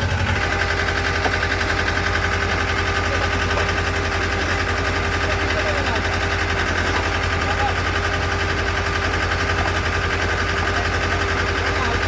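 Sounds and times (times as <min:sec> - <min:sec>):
pile driver pulsing: 0:00.0 - 0:12.0.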